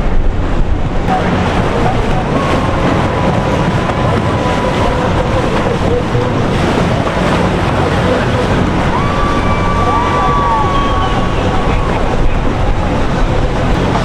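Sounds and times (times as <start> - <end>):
boat engines running: 0.0 - 14.0
rushing water: 0.0 - 14.0
wind buffeting microphone: 0.0 - 14.0.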